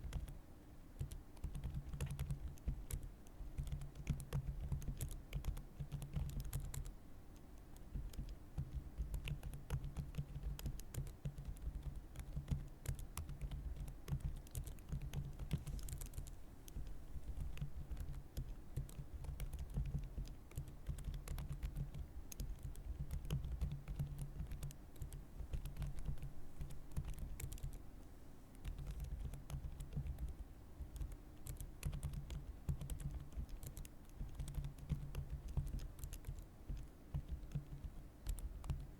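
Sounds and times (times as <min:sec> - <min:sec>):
typing on a keyboard: 0:00.0 - 0:00.4, 0:01.0 - 0:27.8, 0:28.6 - 0:38.9.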